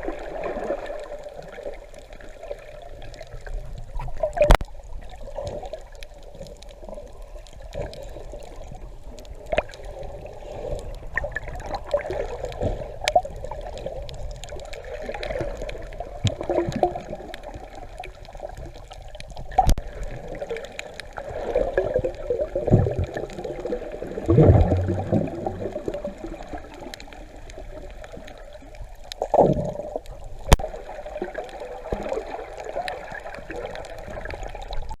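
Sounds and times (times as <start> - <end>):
underwater gurgling and bubbling: 0.0 - 35.0.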